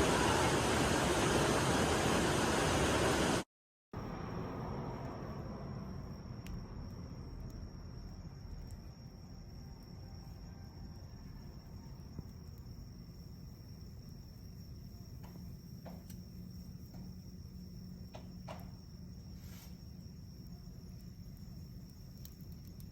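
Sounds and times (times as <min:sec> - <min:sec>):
fire rumbling in wood stove: 0:00.0 - 0:03.4, 0:04.0 - 0:22.9
fire crackling: 0:00.0 - 0:22.9
high-pitched insect trill: 0:04.0 - 0:22.9.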